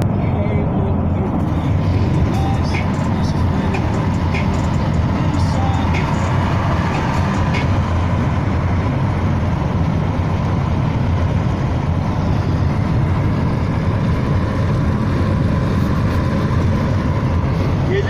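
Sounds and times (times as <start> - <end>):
van engine and road noise: 0.0 - 18.0.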